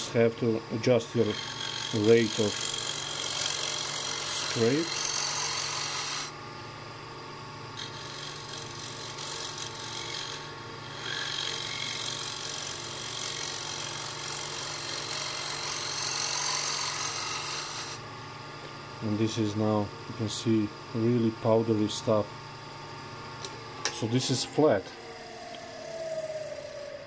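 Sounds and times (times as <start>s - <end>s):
lathe humming: 0.0s - 27.0s.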